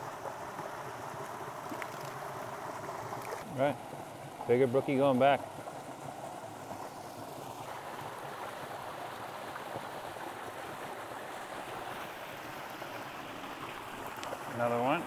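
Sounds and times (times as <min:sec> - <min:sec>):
stream flowing water: 0:00.0 - 0:15.0.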